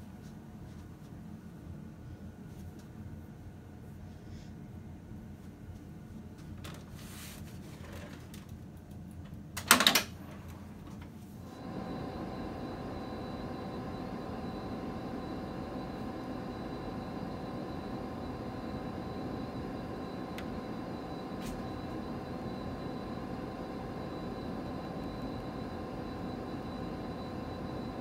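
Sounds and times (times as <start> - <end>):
printer whirring hum: 0.0 - 28.0.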